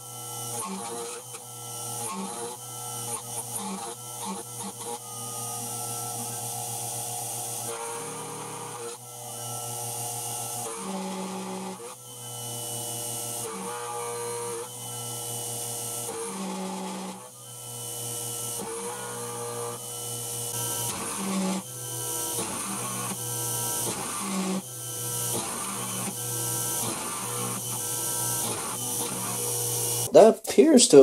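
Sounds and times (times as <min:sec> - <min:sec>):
mill cutting steel: 0:00.0 - 0:30.1.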